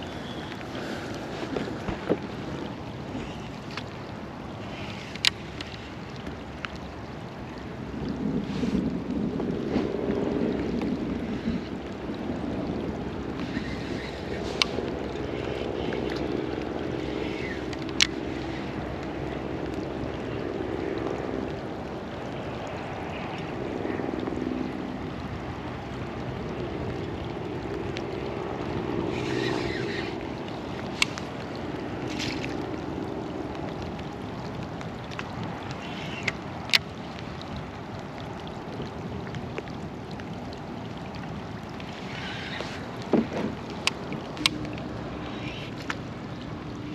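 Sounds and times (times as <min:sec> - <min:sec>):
water washing against hull: 0:00.0 - 0:46.9
wind noise: 0:00.0 - 0:46.9.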